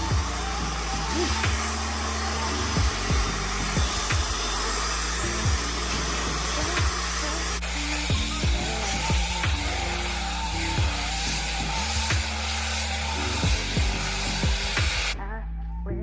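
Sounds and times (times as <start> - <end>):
hair dryer blowing: 0.0 - 15.2
background music: 0.0 - 16.0.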